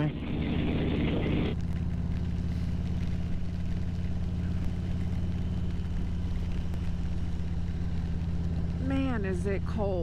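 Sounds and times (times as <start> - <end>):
motorcycle engine running steadily: 0.0 - 10.0.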